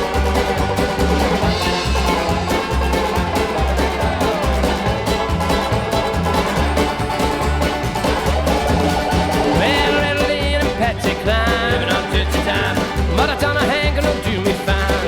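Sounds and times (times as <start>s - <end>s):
instrumental country music: 0.0s - 15.0s.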